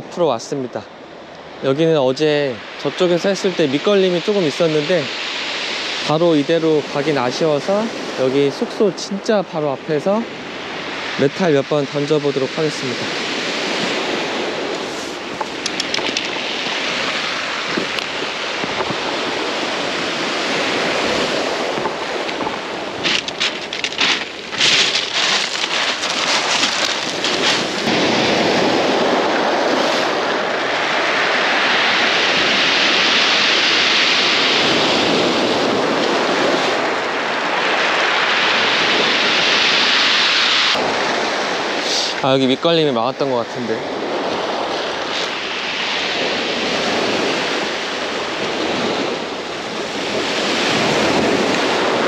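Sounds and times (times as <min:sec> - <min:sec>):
surf washing up pebble beach: 0:01.6 - 0:52.0.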